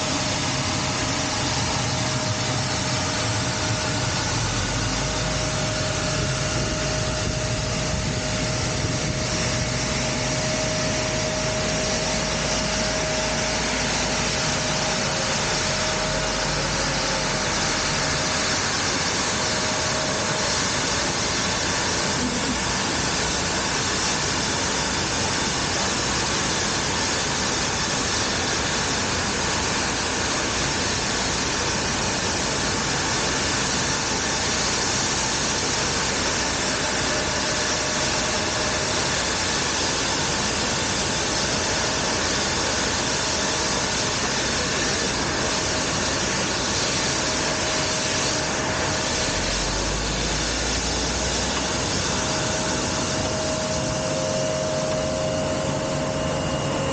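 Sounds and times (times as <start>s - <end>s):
faint jet engine whine: 0.0s - 56.9s
jet engine roar: 0.0s - 56.9s.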